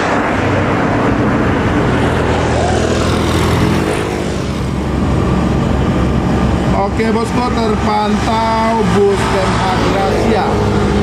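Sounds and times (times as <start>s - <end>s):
bus driving away: 0.0s - 11.0s
diesel engine drone: 0.0s - 11.0s
motorcycle approaching: 0.3s - 11.0s.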